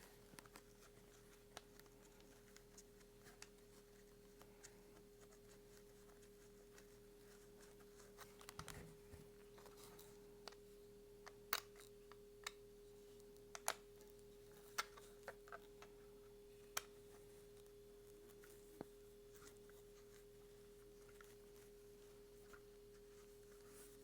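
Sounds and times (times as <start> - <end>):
faint hum: 0.0 - 24.0.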